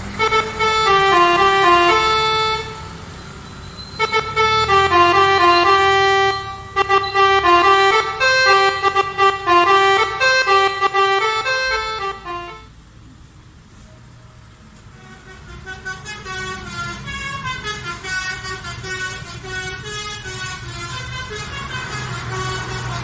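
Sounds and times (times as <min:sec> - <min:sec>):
bus horn playing tune: 0:00.0 - 0:12.8, 0:14.9 - 0:23.0
bus engine low hum: 0:00.0 - 0:23.0.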